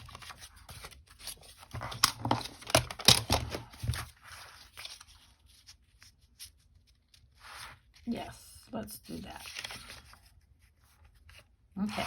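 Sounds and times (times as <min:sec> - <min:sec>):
paper rustling: 0:00.0 - 0:08.1, 0:09.1 - 0:12.0.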